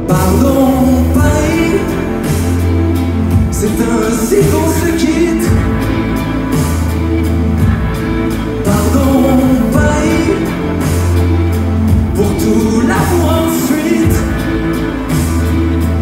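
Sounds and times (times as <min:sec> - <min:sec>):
electric guitars: 0:00.0 - 0:16.0
steady drum beat: 0:00.0 - 0:16.0
sustained bass line: 0:00.0 - 0:16.0.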